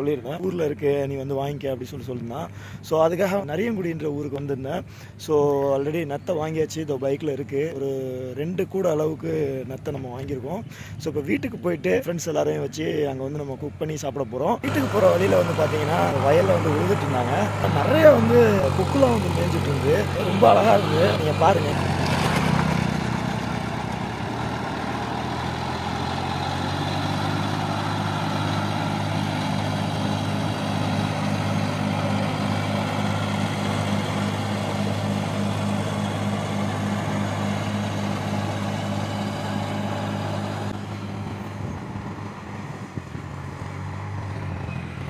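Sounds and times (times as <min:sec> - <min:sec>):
diesel tractor engine droning: 0:00.0 - 0:45.0.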